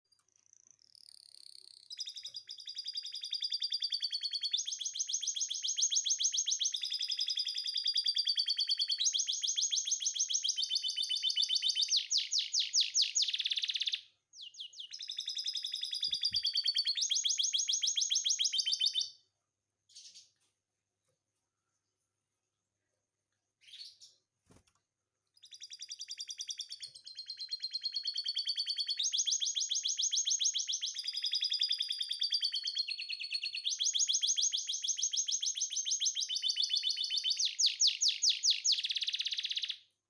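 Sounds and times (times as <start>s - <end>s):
canary singing rapid trills: 0.5s - 19.2s, 23.6s - 24.6s, 25.4s - 39.8s.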